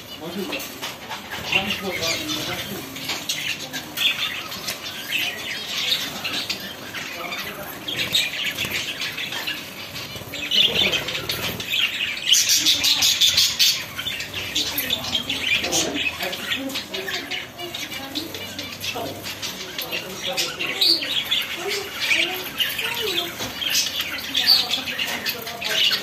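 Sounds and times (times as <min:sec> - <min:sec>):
budgerigars chattering and squawking: 0:00.0 - 0:26.0.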